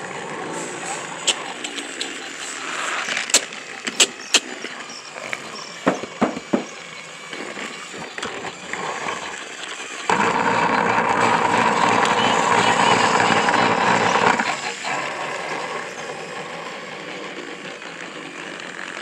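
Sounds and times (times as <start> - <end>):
plastic toy train track clicks: 0.0 - 19.0
toy train motor whirring: 0.0 - 19.0.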